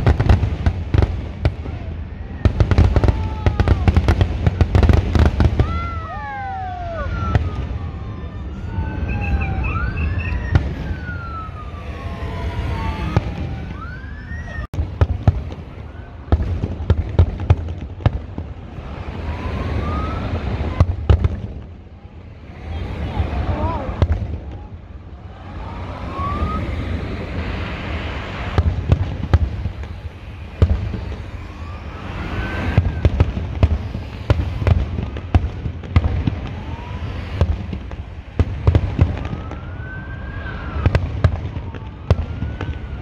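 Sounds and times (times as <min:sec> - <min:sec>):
fireworks whistles: 0:00.0 - 0:17.7, 0:25.4 - 0:43.0
fireworks bangs and crackling: 0:00.0 - 0:43.0.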